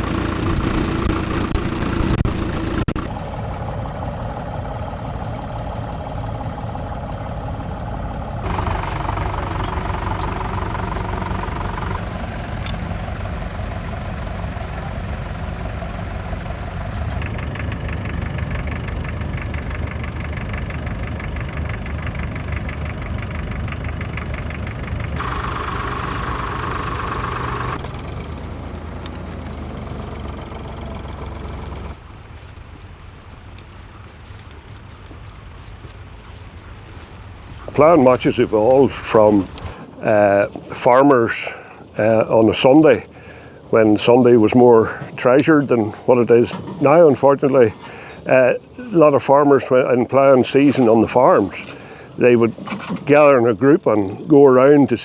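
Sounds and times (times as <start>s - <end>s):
tractor engines running: 0.0s - 55.0s.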